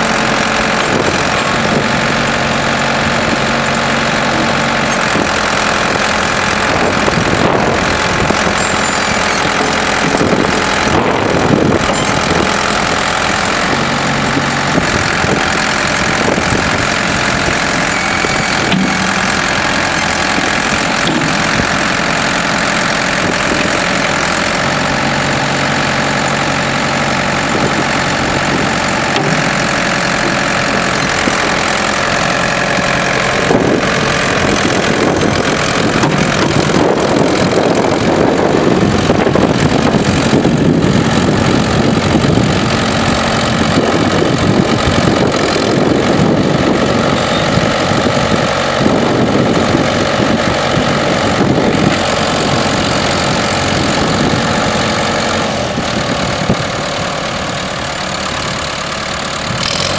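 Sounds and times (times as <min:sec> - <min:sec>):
diesel backhoe engine running: 0:00.0 - 0:59.9.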